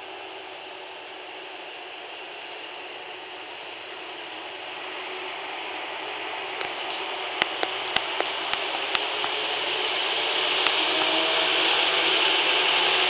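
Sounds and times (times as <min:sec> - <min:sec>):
diesel locomotive passing: 0:00.0 - 0:13.0.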